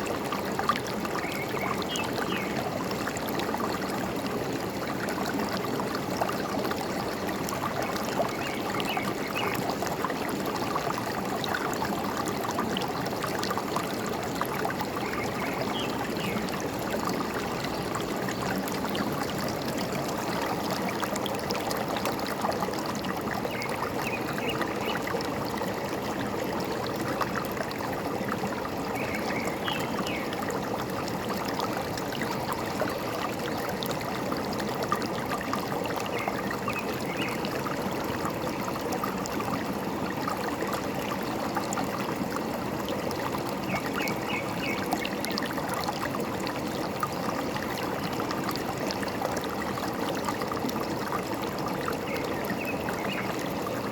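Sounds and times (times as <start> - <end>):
stream trickling and gurgling: 0.0 - 53.9.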